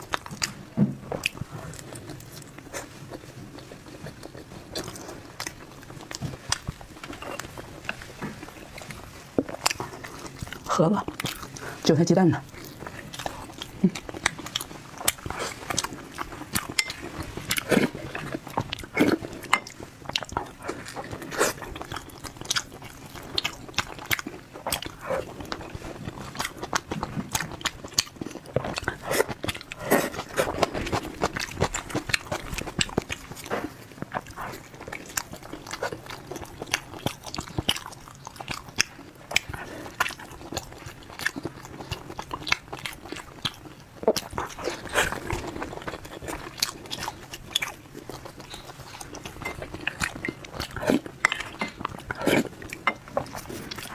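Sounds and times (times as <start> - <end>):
person chewing: 0.0 - 53.9.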